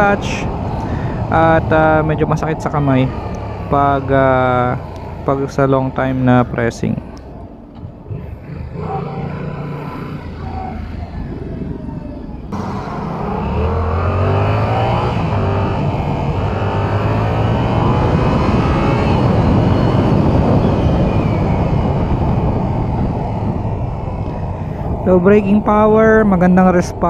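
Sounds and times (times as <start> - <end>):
motorcycle engine revving up: 0.0 - 7.2, 7.8 - 24.6
wind noise: 0.0 - 27.0.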